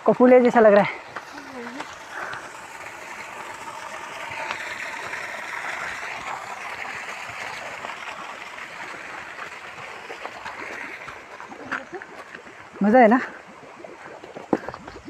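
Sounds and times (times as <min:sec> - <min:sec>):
water gushing into tank: 0:00.0 - 0:15.0.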